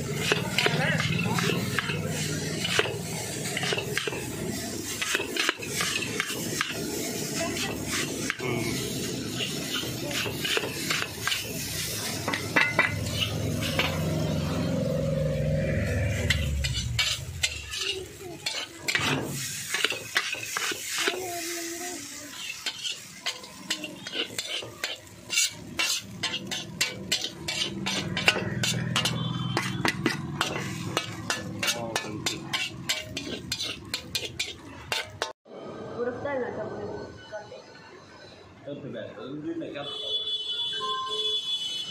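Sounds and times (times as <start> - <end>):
hot oil sizzling: 0.0 - 35.4
metal spatula scraping wok: 0.0 - 35.4.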